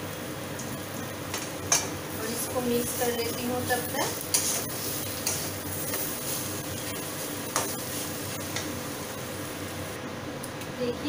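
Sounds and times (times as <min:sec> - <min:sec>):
steady sizzle of frying: 0:00.0 - 0:11.0.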